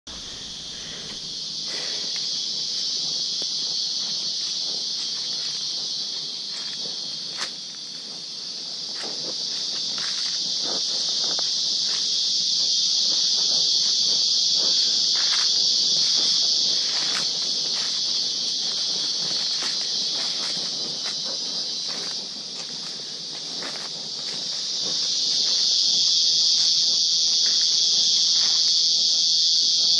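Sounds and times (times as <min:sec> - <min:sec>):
footsteps on leaf litter: 0:00.1 - 0:29.0
insect chorus drone: 0:00.1 - 0:29.9.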